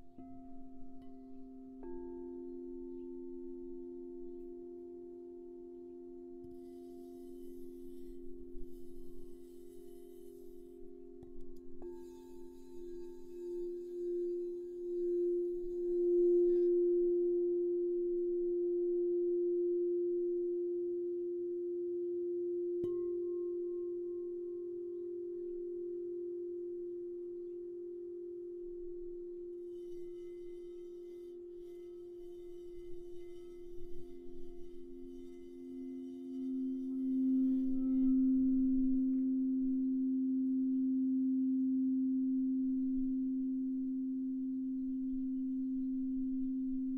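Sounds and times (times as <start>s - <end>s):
bright high bowl ringing: 0.0s - 46.9s
crystal singing bowls ringing: 0.0s - 46.9s.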